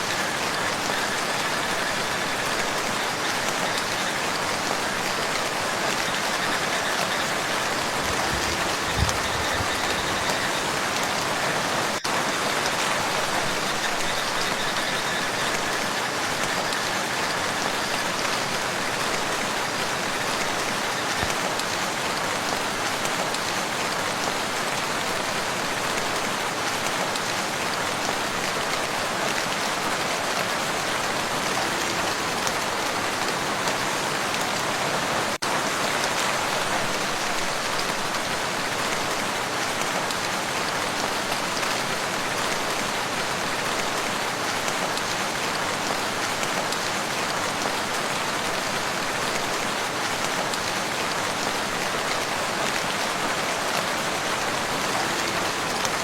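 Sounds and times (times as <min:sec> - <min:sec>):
rain falling on a lake: 0:00.0 - 0:56.0.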